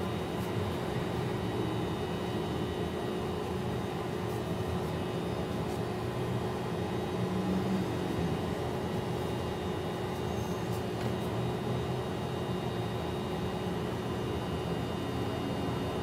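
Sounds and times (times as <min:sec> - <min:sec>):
steady mechanical hum with hiss: 0:00.0 - 0:16.0.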